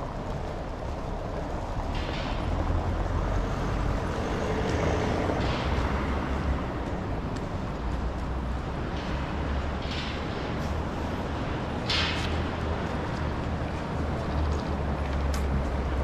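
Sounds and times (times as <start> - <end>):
street noise low rumble: 0.0 - 16.0.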